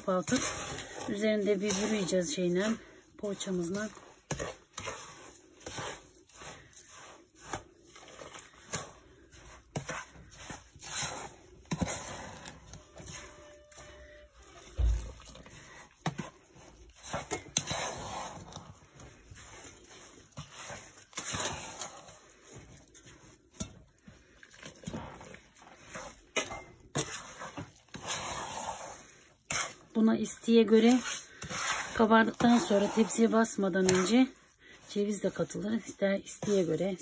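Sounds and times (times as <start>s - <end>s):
wooden spoon scraping a pan: 0.0s - 37.0s.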